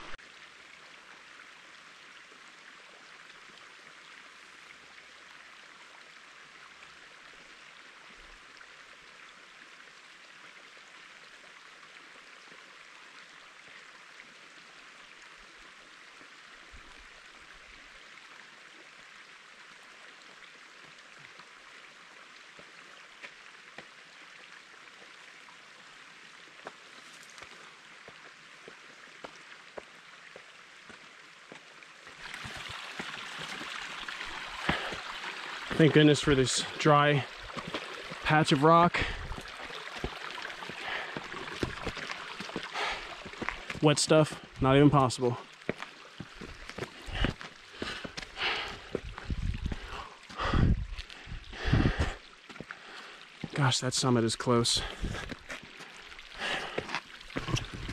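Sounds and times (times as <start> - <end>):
water running over rock: 0.0 - 57.9.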